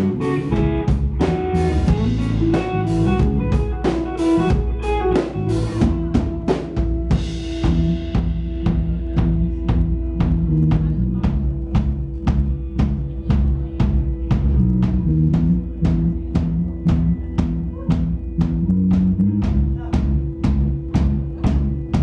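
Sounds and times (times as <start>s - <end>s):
drum kit beat: 0.0s - 22.0s
electric guitar notes: 0.0s - 22.0s.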